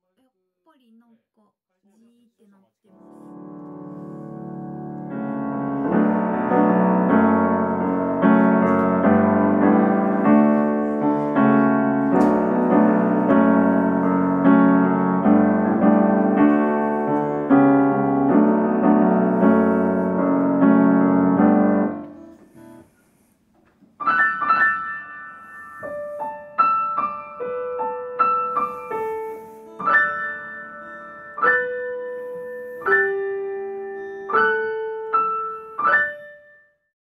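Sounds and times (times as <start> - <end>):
grand piano repeated chords: 3.0 - 22.9, 24.0 - 36.6.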